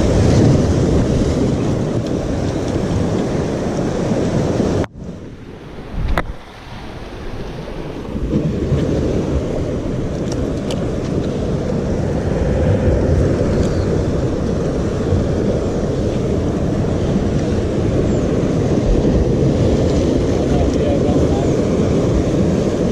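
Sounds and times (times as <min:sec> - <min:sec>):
surf breaking on rocks: 0:00.0 - 0:05.1, 0:05.8 - 0:22.9
wind buffeting microphone: 0:00.0 - 0:22.9.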